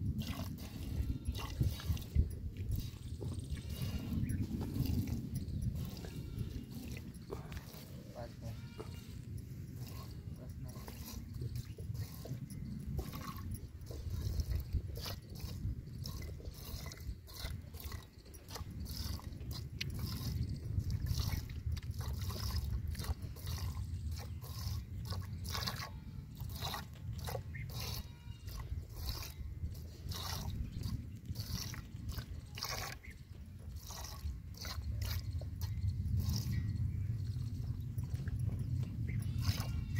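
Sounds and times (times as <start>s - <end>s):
milk squirting into metal pail: 0.2s - 36.6s, 39.4s - 39.8s.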